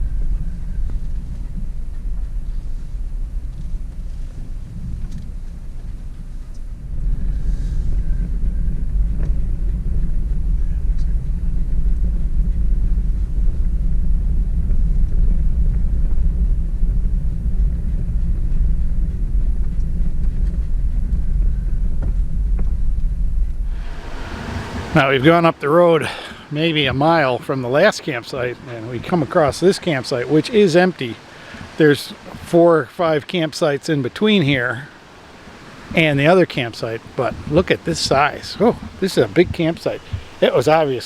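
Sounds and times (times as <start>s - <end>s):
car rumbling on dirt road: 0.0s - 41.0s.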